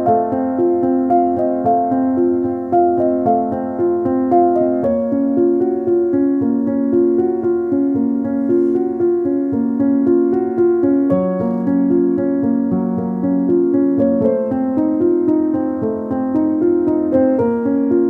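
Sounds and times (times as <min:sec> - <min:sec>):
gentle keyboard music: 0:00.0 - 0:18.0.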